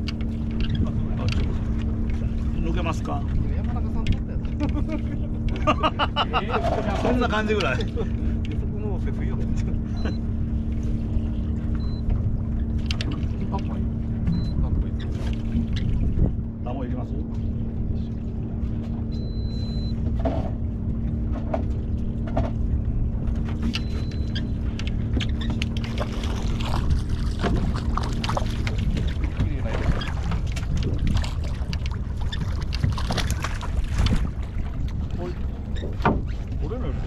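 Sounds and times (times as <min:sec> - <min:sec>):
boat engine idling: 0:00.0 - 0:37.0
water slapping and splashing: 0:00.0 - 0:37.0.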